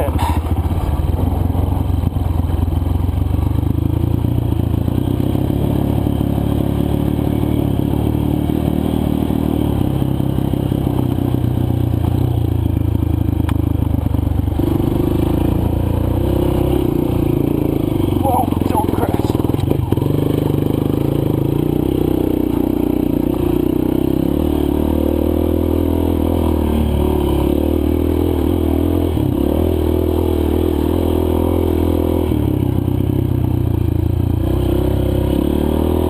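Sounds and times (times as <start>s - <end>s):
dirt bike engine running: 0.0s - 36.0s.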